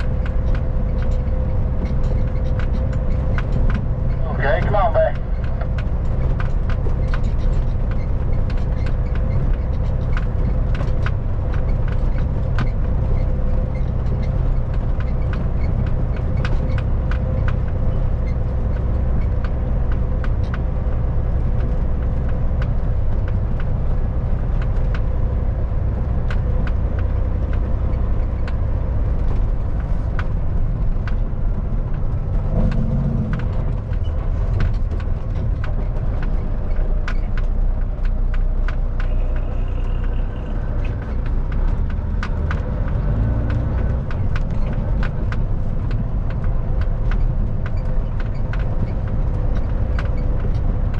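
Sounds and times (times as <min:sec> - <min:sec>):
small rattles and clicks: 0:00.0 - 0:50.9
truck diesel engine droning: 0:00.0 - 0:50.9.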